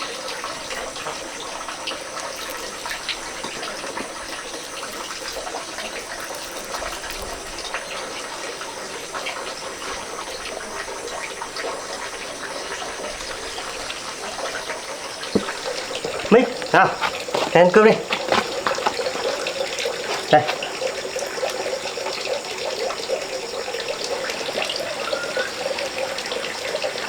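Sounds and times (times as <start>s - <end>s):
water running and splashing: 0.0s - 27.0s.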